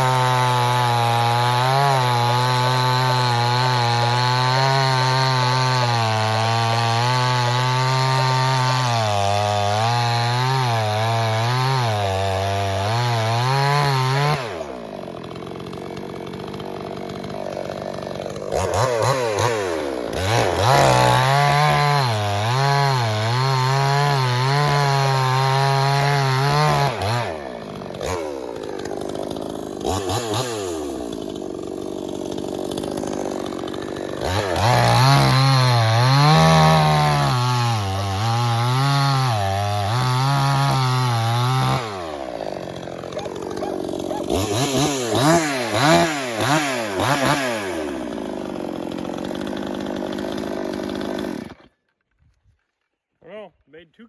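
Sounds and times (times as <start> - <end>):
chainsaw cutting through log: 0.0 - 52.2.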